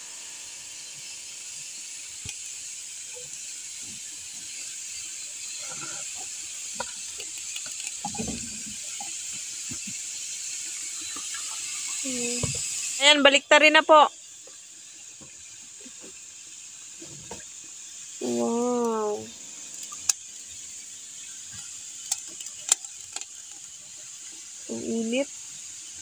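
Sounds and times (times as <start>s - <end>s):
fish sizzling on grill: 0.0s - 26.0s.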